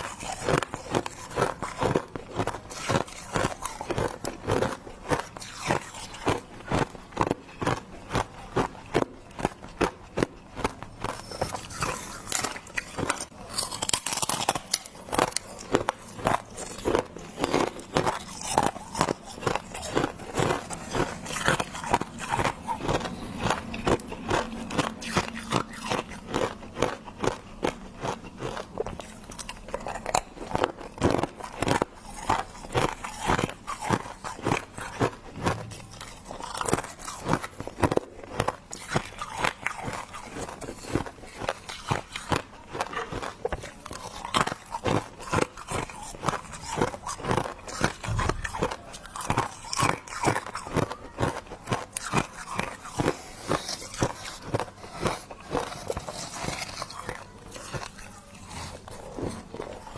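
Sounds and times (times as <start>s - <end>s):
frost crunching between teeth: 0.0s - 59.9s.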